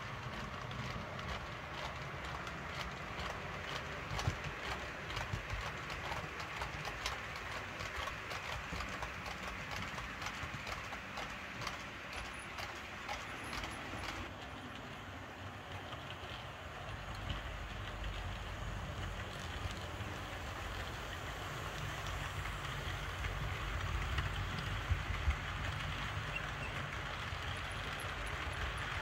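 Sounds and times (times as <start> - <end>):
model train running noise: 0.0 - 29.0
model train wheels clicking: 0.0 - 29.0.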